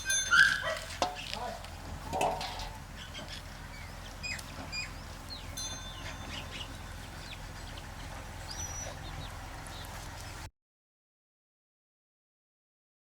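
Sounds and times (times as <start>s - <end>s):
birds chirping: 0.0s - 10.5s
steady low hum: 0.0s - 10.5s.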